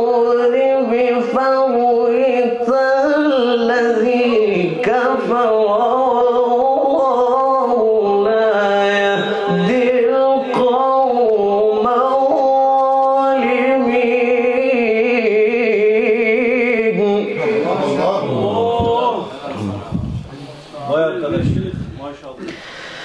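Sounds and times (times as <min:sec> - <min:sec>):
man reciting melismatic chant: 0:00.0 - 0:22.4.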